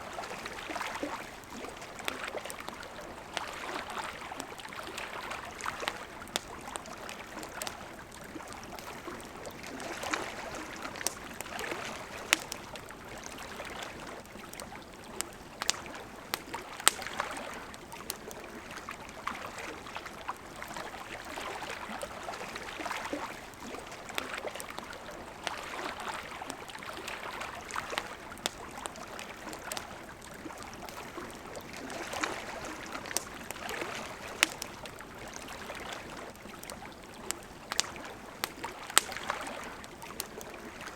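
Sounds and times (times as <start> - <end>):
river flowing: 0.0 - 40.9
wood fire crackling: 0.0 - 40.9.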